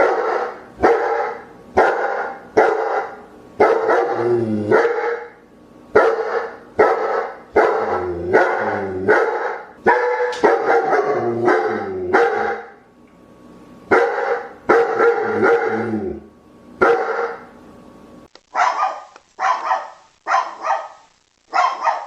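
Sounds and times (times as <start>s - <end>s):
dog barking: 0.0s - 5.4s, 6.0s - 12.8s, 13.9s - 15.9s, 16.8s - 17.5s, 18.5s - 22.0s.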